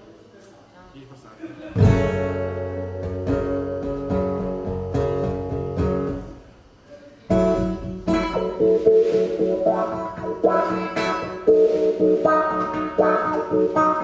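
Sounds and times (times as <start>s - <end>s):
acoustic guitar strumming: 1.8s - 6.4s, 7.3s - 14.0s.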